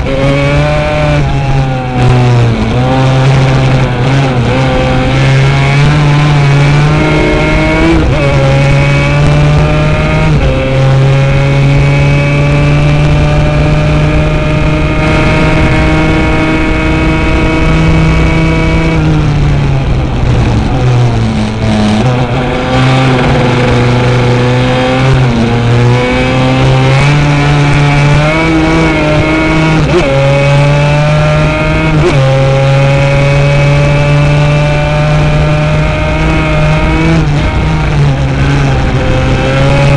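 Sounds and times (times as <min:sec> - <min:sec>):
two-stroke quad engine revving: 0:00.0 - 0:39.9.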